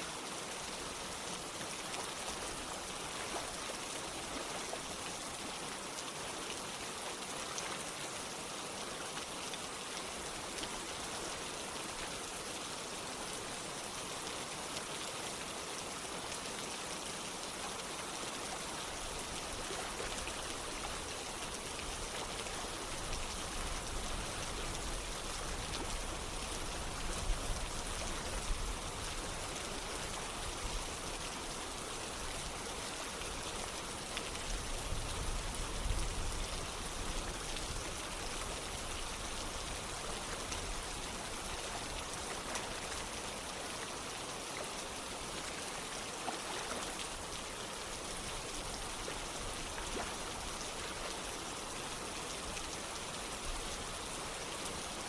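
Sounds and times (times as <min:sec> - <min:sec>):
running water: 0:00.0 - 0:55.0
steady rain: 0:00.0 - 0:55.0.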